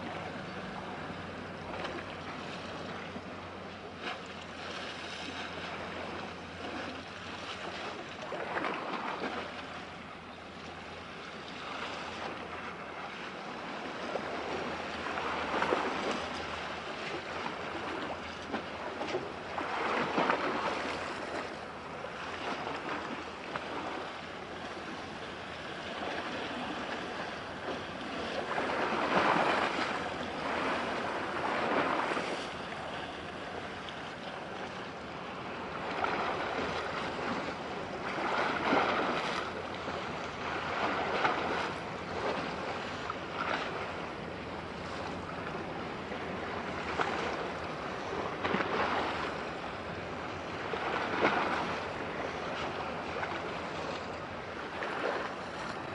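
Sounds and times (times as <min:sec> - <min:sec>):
sea water splashing: 0:00.0 - 0:55.9.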